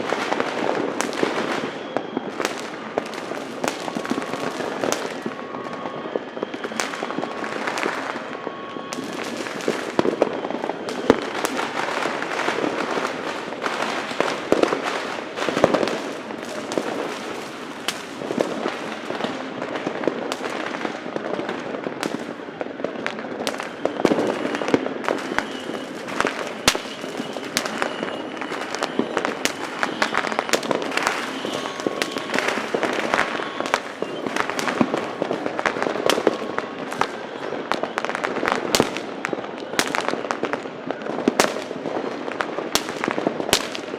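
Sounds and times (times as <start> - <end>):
firecracker crackle: 0.0 - 43.9
fireworks bangs and pops: 0.0 - 43.9.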